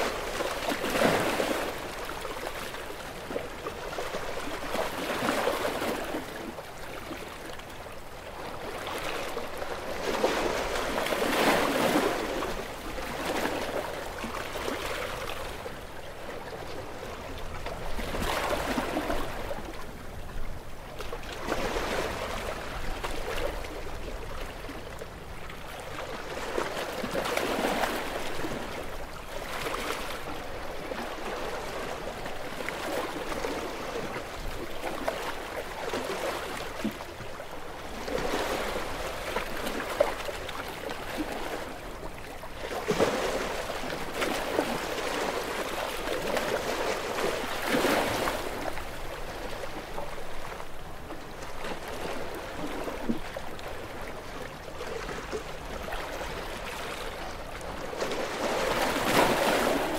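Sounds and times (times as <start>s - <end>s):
small waves lapping: 0.0s - 59.9s.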